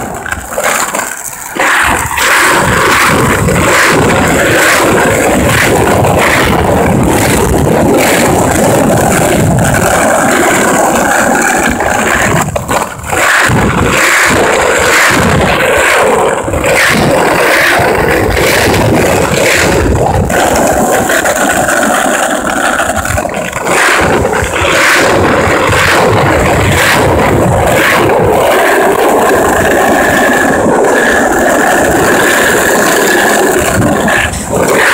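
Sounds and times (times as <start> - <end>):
wheels scraping on rough asphalt: 0.0 - 34.9.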